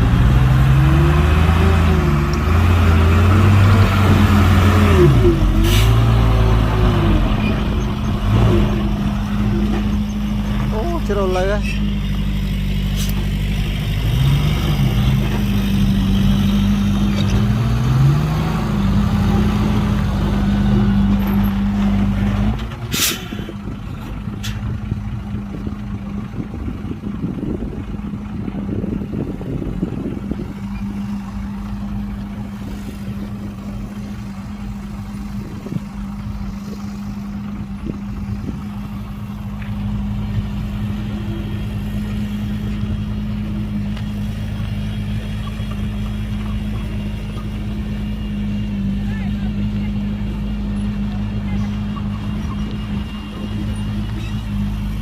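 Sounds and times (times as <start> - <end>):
heavy diesel machinery engine: 0.0 - 55.0.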